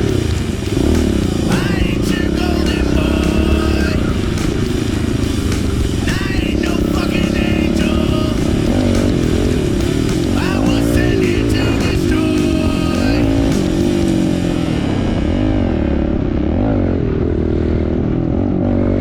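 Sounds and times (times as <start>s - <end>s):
music playing: 0.0s - 16.4s
pit bike engine revving: 0.0s - 19.0s.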